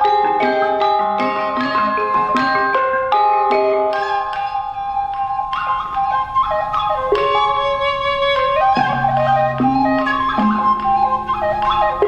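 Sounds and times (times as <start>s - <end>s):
gamelan ensemble playing: 0.0s - 12.0s.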